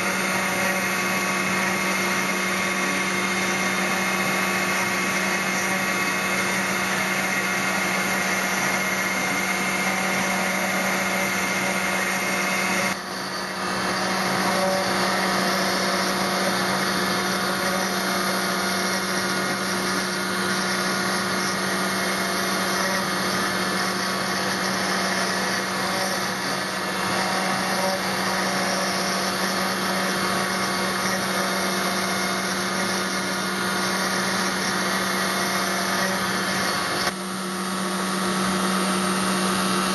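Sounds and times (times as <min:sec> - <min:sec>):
cutter bit grinding stone: 0:00.0 - 0:39.9
machine spindle whining: 0:00.0 - 0:39.9.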